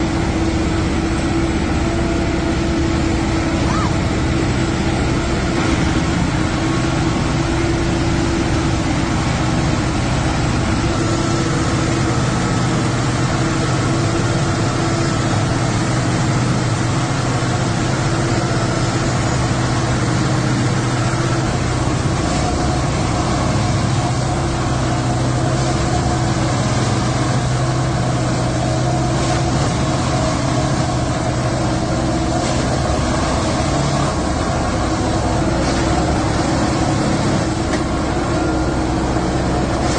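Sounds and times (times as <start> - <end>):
track machine engine hum: 0.0 - 39.9.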